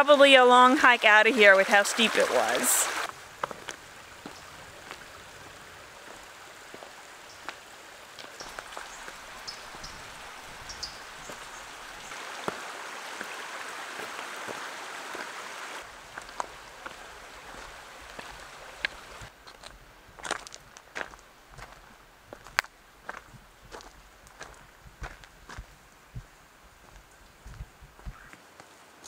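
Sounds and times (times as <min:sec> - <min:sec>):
creek flowing: 0:00.0 - 0:29.0.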